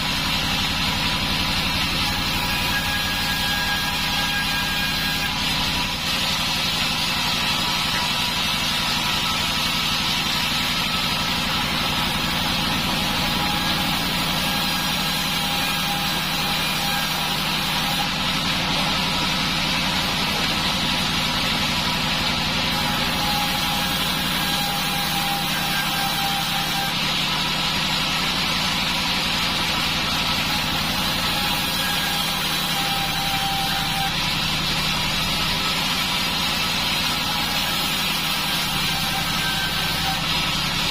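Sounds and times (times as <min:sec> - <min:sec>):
sawmill machine drone: 0:00.0 - 0:40.9.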